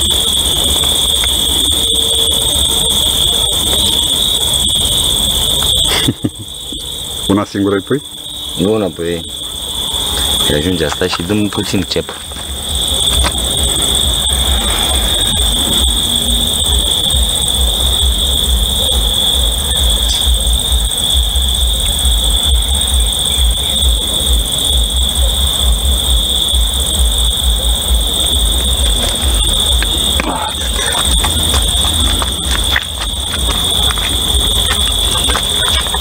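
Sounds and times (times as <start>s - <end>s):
high-pitched whine: 0.0s - 36.0s.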